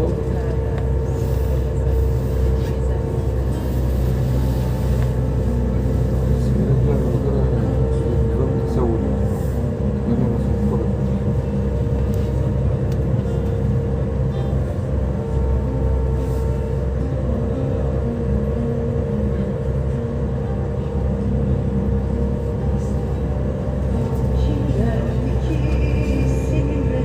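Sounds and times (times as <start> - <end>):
constant hum: 0.0 - 27.0
faint voices of passers-by: 0.0 - 27.0
low rumble of engines and traffic: 0.0 - 27.0.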